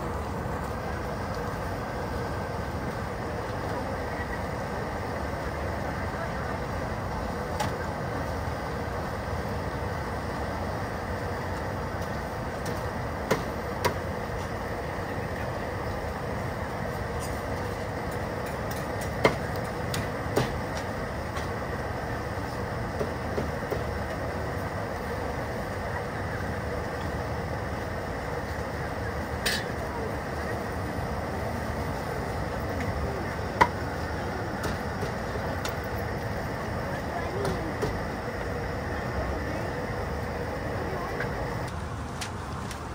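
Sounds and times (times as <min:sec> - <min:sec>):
crowd hubbub: 0:00.0 - 0:41.8.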